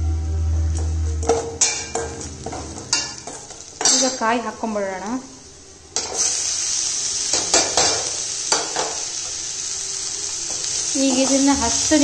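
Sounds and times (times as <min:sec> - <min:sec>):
vegetables sizzling in oil: 0:01.2 - 0:12.0.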